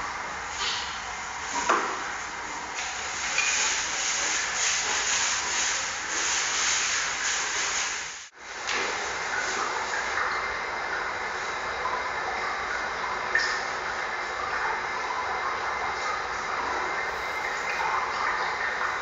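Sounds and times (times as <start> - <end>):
steady hiss of noise: 0.0 - 19.0.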